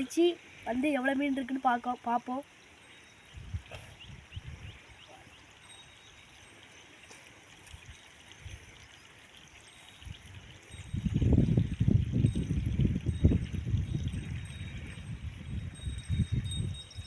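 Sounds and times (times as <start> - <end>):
stream flowing and trickling: 0.0 - 17.0.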